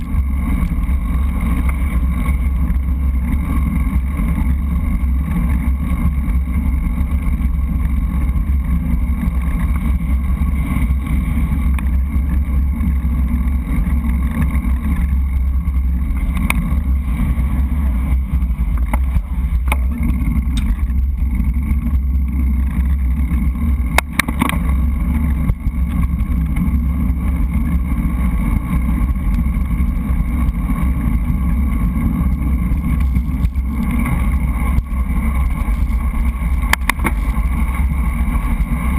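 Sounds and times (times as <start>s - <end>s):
road vibration rumble: 0.0s - 38.9s.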